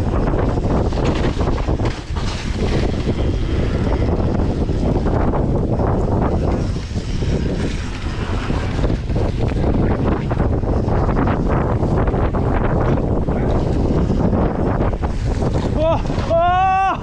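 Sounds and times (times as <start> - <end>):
bike rattling over roots: 0.0 - 17.0
bike tyre rumble on dirt: 0.0 - 17.0
wind buffeting microphone: 0.0 - 17.0.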